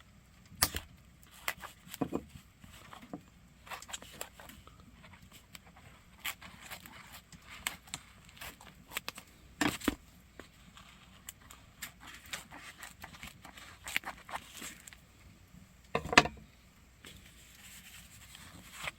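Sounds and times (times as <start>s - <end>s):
firewood crackling in a stove: 0.0s - 18.9s.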